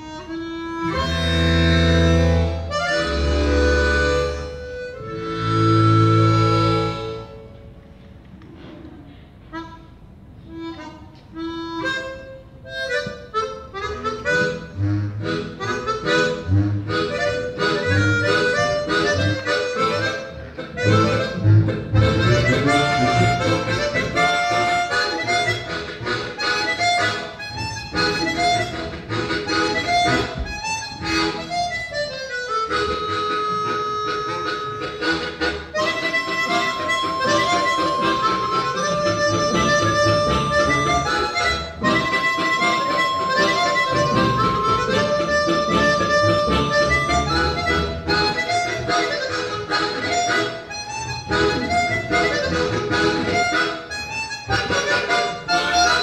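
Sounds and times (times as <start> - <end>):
pulsing bass harmonica: 0.0 - 7.5, 10.5 - 56.0
melody harmonicas: 0.0 - 7.6, 9.5 - 56.0.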